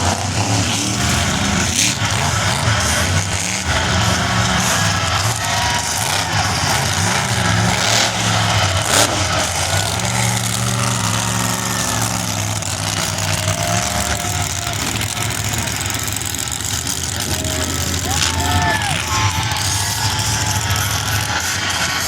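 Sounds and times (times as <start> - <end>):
truck engine idling unevenly: 0.0 - 22.0.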